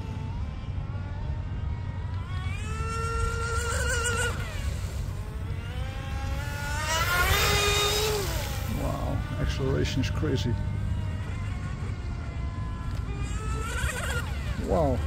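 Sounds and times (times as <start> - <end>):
rc boat motor whining: 0.0 - 15.0.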